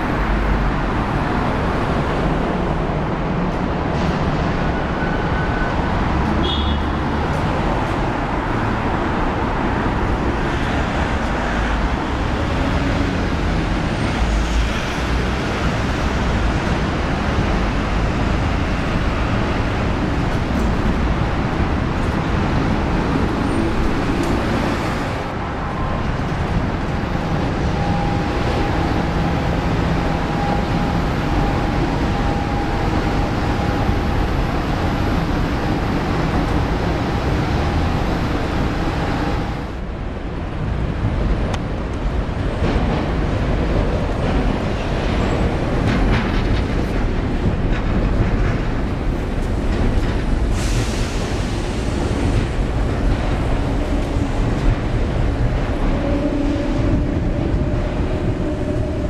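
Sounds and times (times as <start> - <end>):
cars and trucks passing: 0.0 - 59.0
road traffic noise: 0.0 - 59.0.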